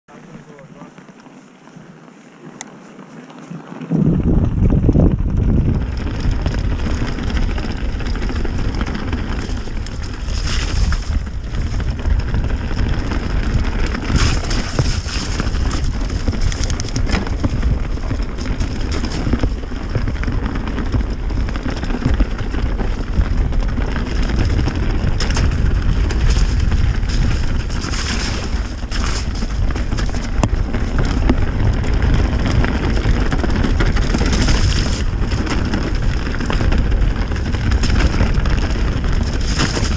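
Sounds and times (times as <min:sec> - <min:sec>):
tyre rumble: 0:00.1 - 0:39.9
wind buffeting microphone: 0:03.4 - 0:39.9
bike rattling knocks: 0:04.0 - 0:39.9.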